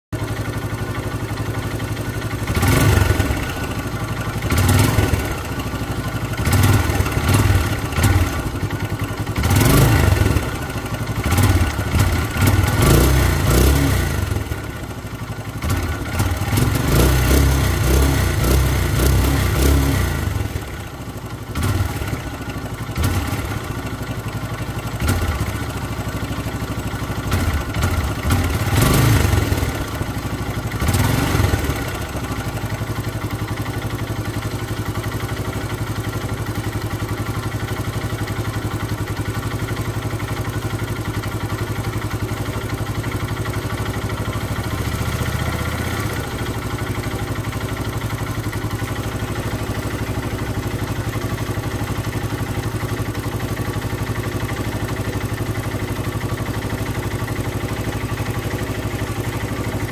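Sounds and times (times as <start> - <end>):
motorcycle engine revving and idling: 0.1 - 59.9.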